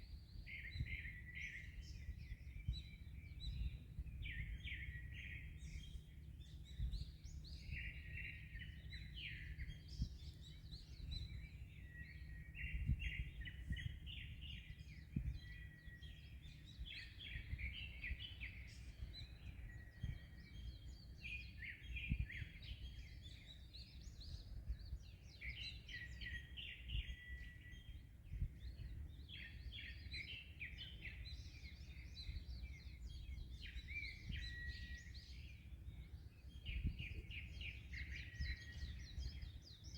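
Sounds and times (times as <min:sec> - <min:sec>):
low rumble of wind and sea: 0:00.0 - 0:39.9
small birds chirping: 0:00.0 - 0:39.9.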